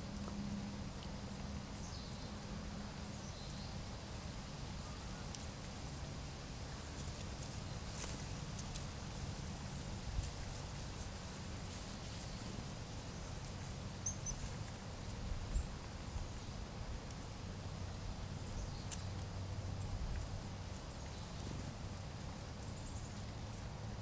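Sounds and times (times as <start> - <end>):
dry leaves rustling: 0.0 - 24.0
low steady rumble: 0.0 - 24.0.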